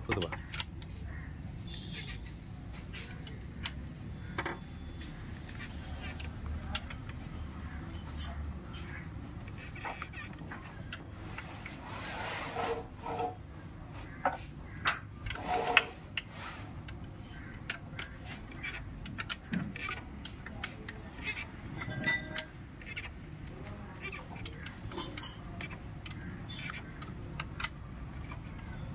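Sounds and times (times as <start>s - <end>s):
engine turned with wrench clicking: 0.0s - 11.9s, 14.6s - 28.9s.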